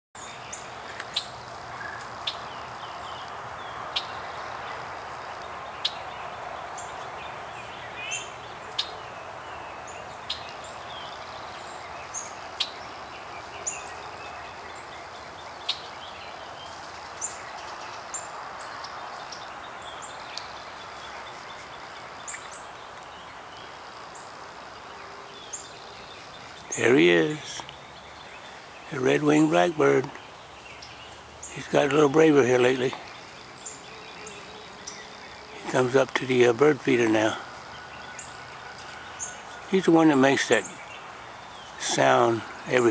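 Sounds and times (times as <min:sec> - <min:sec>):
songbirds chirping and whistling: 0:00.2 - 0:42.9
steady background hiss: 0:00.2 - 0:42.9.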